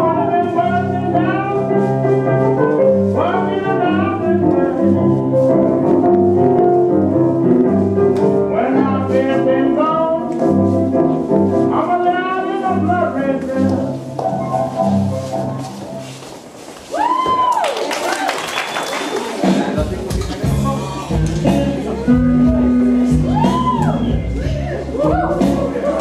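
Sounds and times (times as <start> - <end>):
slow blues music: 0.0 - 16.5, 19.4 - 26.0.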